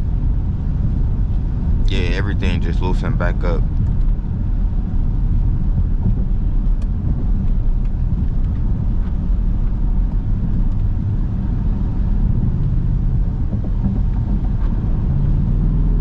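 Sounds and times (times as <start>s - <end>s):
car engine low rumble: 0.0s - 16.0s
road and tyre noise: 0.0s - 16.0s.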